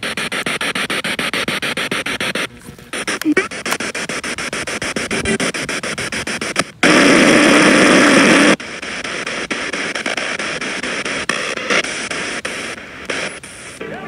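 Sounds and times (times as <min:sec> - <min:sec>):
choppy radio static with clicks: 0:00.0 - 0:14.0
loud steady hiss: 0:00.0 - 0:14.0.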